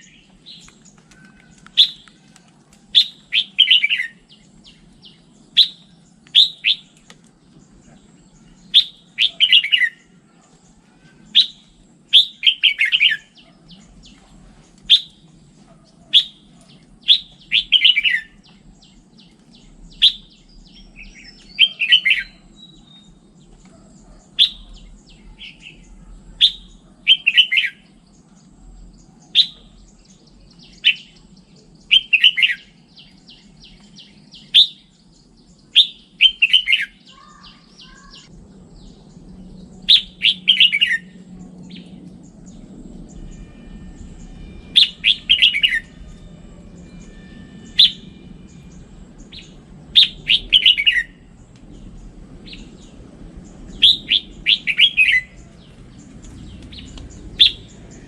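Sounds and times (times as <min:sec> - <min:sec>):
bird singing: 0:00.0 - 0:58.0
faint low hum: 0:00.0 - 0:58.0.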